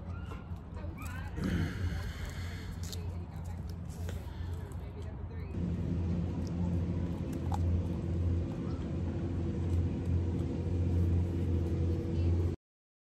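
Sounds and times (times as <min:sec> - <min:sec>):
low engine hum: 0:00.0 - 0:12.6.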